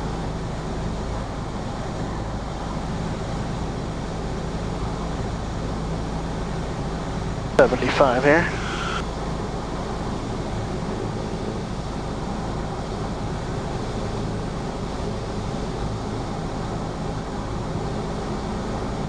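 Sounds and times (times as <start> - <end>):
airplane engine droning in cabin: 0.0 - 19.0.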